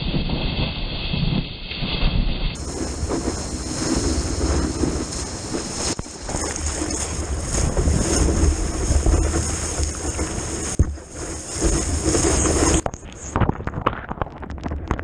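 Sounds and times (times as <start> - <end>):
low rumble: 0.0 - 15.0
wind buffeting microphone: 0.0 - 15.0
breaking surf: 1.7 - 14.2
rushing ocean water: 2.1 - 15.0.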